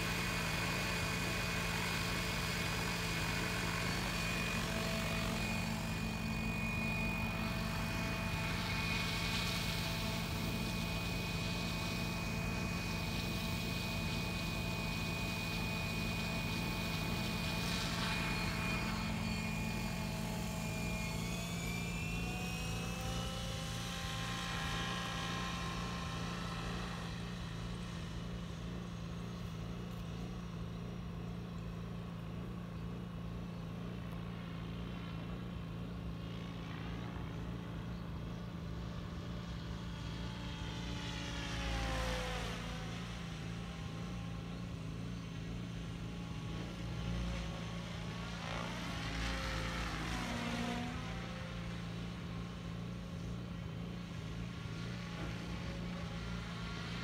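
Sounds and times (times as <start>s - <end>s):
helicopter rotor hum: 0.0s - 57.0s
high motor and rotor whine: 0.0s - 57.0s.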